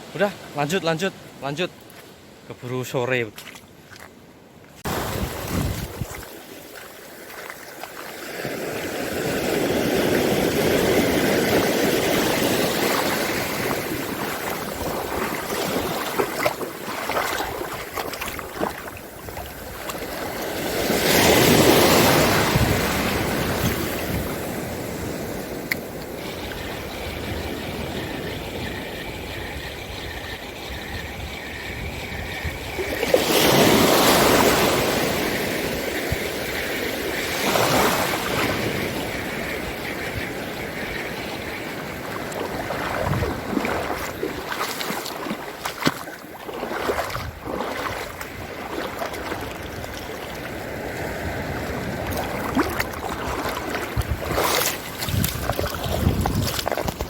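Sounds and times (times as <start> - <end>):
sea waves washing: 4.8 - 57.0.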